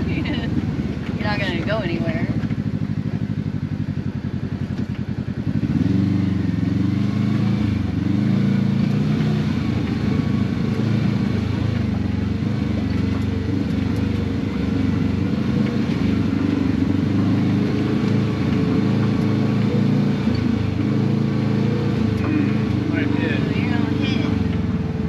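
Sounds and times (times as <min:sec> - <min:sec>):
utv engine running: 0:00.0 - 0:25.0.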